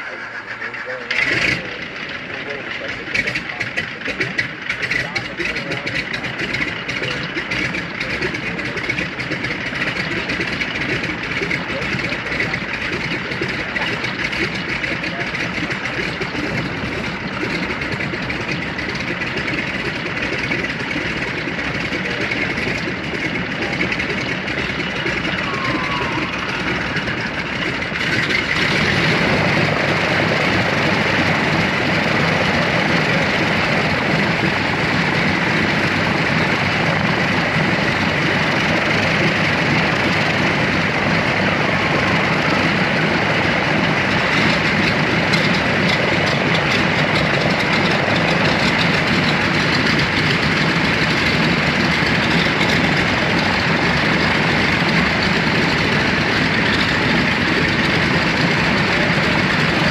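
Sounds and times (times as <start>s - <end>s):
radial aircraft engines running: 0.0s - 59.9s.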